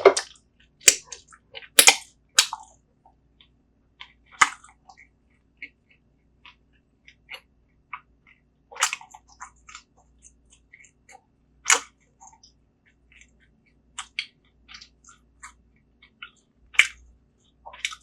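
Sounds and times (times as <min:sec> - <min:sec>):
person chewing: 0:00.0 - 0:02.7, 0:03.4 - 0:18.0.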